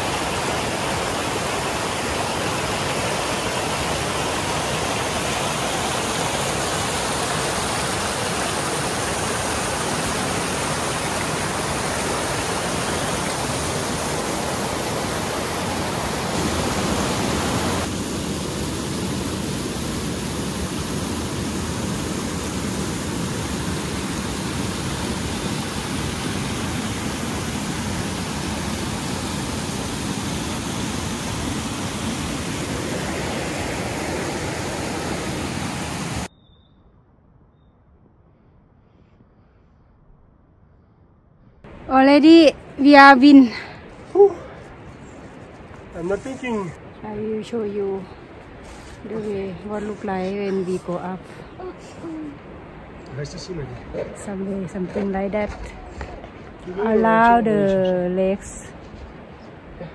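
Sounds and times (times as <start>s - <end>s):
rushing flowing water: 0.0s - 36.3s, 41.7s - 59.9s.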